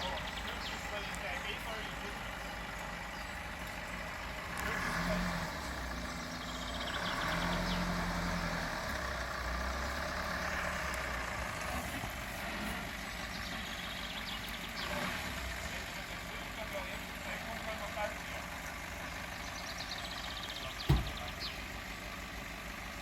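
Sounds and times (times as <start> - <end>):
off-road engine running: 0.0 - 23.0.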